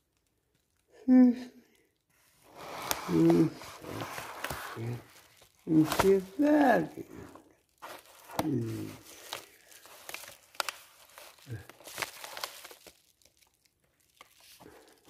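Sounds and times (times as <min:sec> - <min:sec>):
paper envelope crinkling and tearing: 0:02.2 - 0:15.0.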